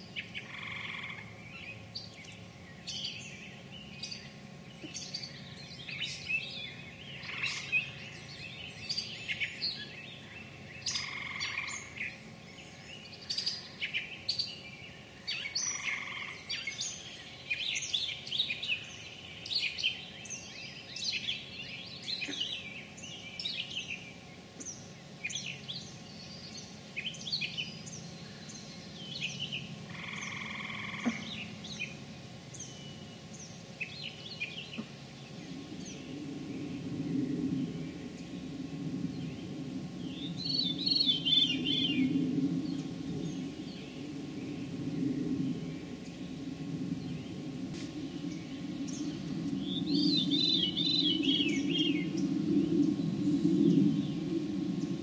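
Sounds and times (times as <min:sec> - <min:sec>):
faint low steady hum: 0:00.0 - 0:55.0
songbirds singing and chirping: 0:00.0 - 0:55.0.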